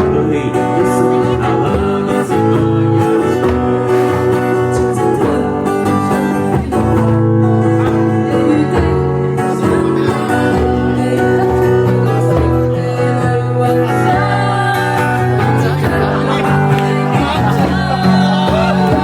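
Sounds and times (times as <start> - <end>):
pop ballad with guitar: 0.0 - 19.0.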